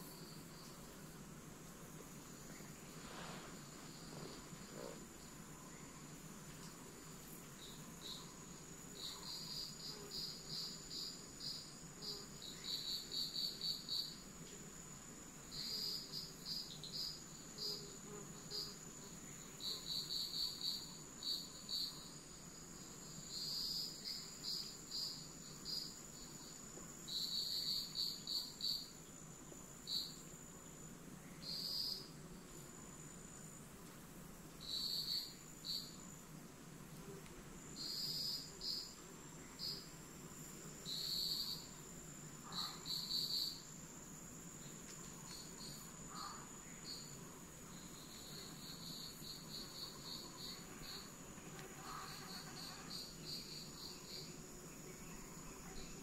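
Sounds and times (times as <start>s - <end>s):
insect trill: 0.0s - 56.0s
insects chirping: 0.0s - 56.0s
low background hiss: 0.0s - 56.0s.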